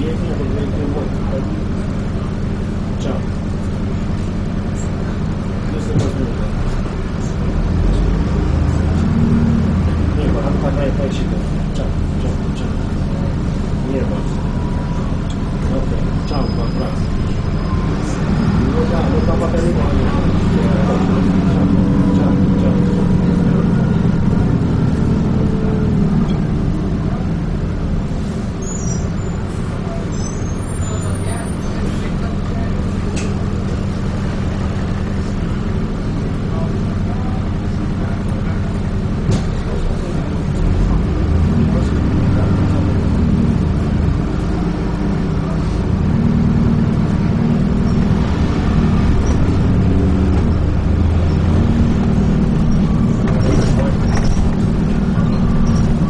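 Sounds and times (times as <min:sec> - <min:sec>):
bus engine drone: 0:00.0 - 0:56.0
road noise: 0:00.0 - 0:56.0.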